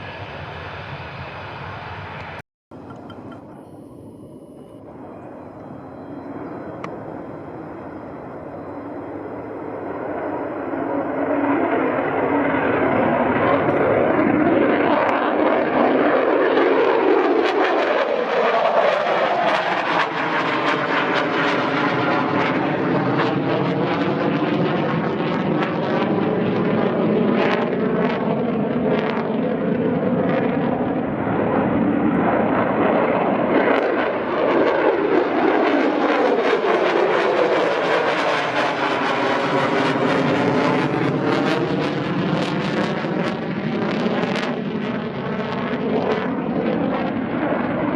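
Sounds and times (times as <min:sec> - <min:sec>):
fighter jets flying over: 0:00.0 - 0:47.9.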